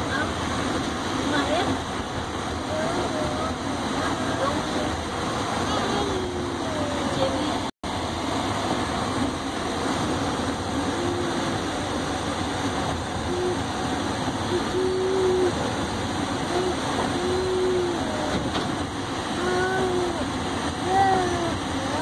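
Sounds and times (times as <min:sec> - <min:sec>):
train rolling on track: 0:00.0 - 0:22.0.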